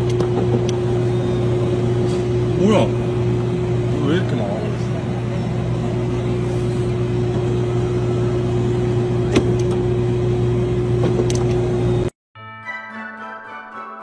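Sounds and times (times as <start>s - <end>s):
ice cream machine humming: 0.0s - 12.2s.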